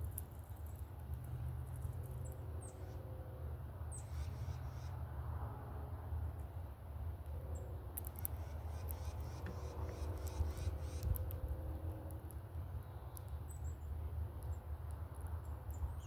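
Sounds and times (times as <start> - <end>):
small birds chipping: 0.0 - 3.2, 3.8 - 5.0, 6.3 - 16.0.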